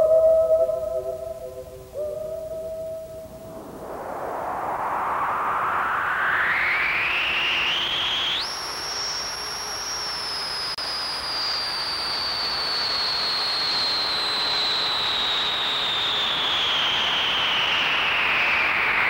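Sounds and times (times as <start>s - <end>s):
high electronic whistling tone: 0.0s - 19.0s
steady hiss: 0.0s - 19.0s.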